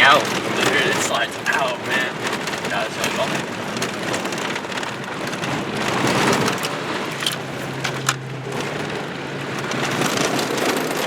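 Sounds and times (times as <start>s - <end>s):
gravel pinging against car: 0.0s - 11.0s
tyres crunching over dirt road: 0.0s - 11.0s.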